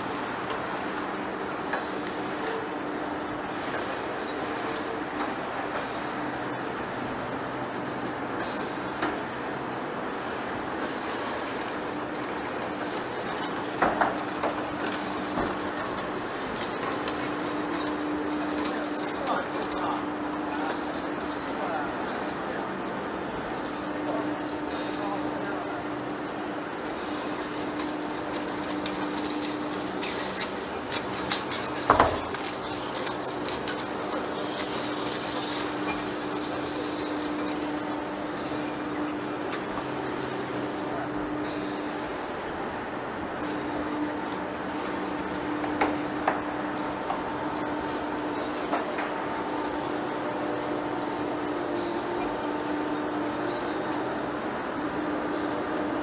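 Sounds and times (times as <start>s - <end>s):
lathe mechanical drone: 0.0s - 56.0s.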